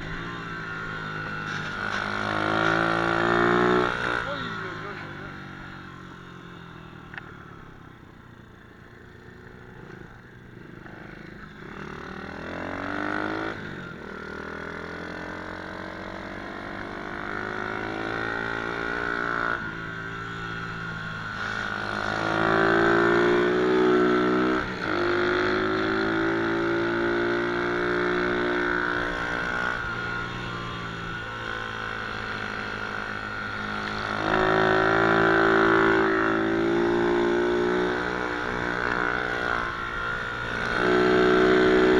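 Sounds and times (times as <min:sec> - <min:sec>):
small motorbike engine revving: 0:00.0 - 0:41.9.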